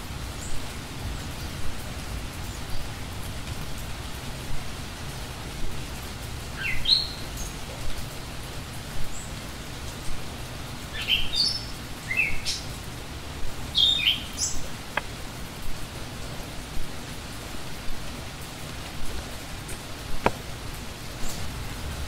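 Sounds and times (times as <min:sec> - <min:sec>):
outdoor hiss: 0:00.0 - 0:22.0
songbirds chirping: 0:00.1 - 0:21.6.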